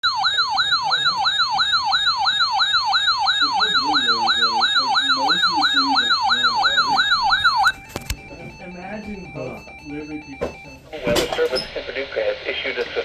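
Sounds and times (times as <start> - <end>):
electronic siren yelping: 0.0 - 11.2.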